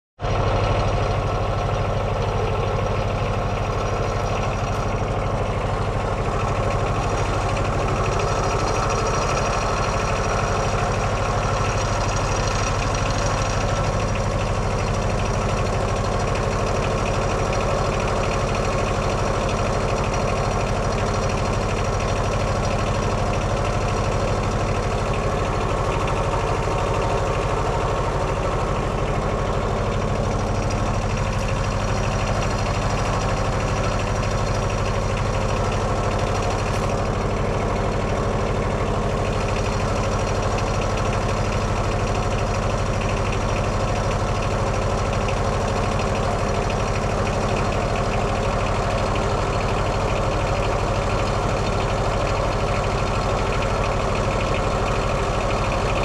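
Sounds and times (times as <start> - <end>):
diesel engine running: 0.2 - 56.0.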